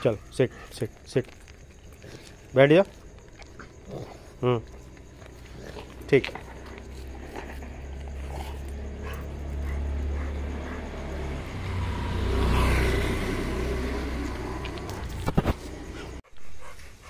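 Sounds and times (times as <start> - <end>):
vehicle engine rumble passing: 0.0 - 16.2.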